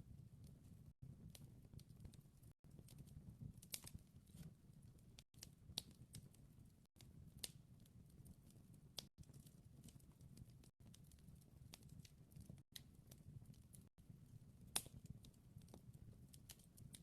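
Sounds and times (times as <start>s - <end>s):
wood fire crackling: 0.2s - 17.0s
fire pops and snaps: 0.4s - 13.9s, 14.6s - 17.0s.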